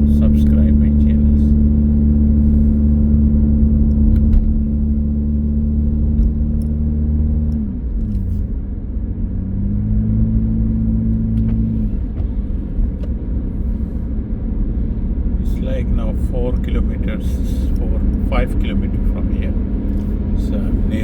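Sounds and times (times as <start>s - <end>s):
car engine: 0.0s - 21.0s
road noise: 0.0s - 21.0s.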